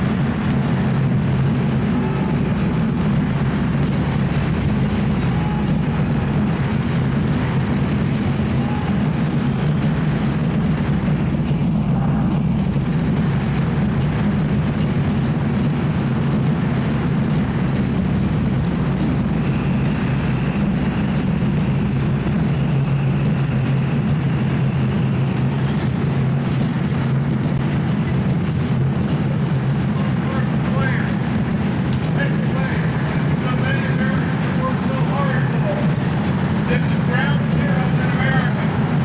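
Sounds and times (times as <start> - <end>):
drumming: 0.0 - 39.0.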